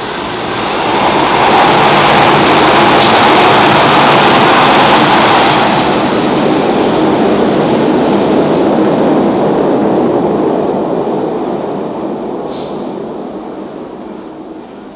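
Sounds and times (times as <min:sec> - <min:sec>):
train rushing through tunnel: 0:00.0 - 0:14.9.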